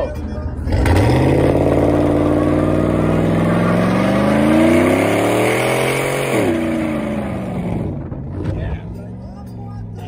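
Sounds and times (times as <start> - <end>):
pickup truck engine revving: 0.6 - 8.8.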